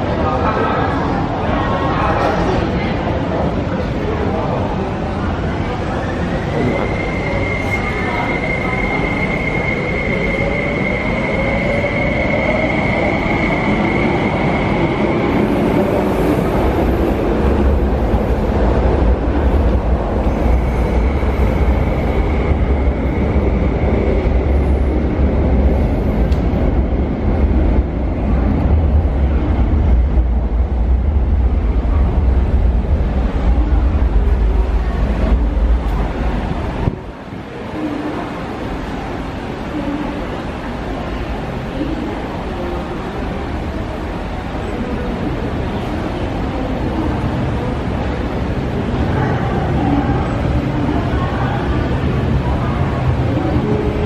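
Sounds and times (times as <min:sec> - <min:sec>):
high electric train whine: 0:00.0 - 0:54.0
train wheels rumbling on rails: 0:00.9 - 0:54.0.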